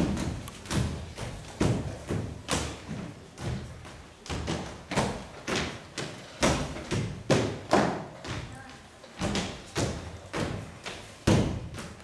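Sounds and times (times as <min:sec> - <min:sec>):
feet stamping on stage floor: 0:00.0 - 0:12.0.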